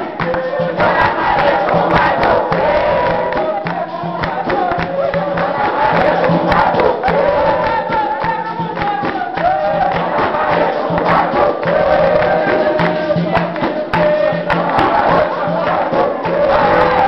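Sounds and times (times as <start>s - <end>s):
hand percussion strokes: 0.0s - 17.0s
voices singing in chorus: 0.0s - 17.0s.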